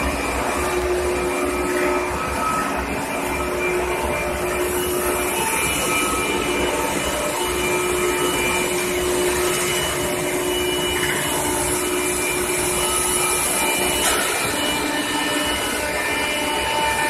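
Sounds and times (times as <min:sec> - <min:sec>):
machine whining tones: 0:00.0 - 0:17.0.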